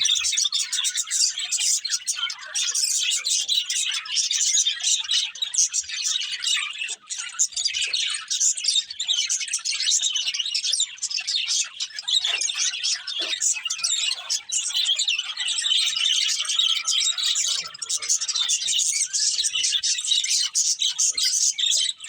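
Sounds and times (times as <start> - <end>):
budgerigars chirping: 0.0 - 22.0.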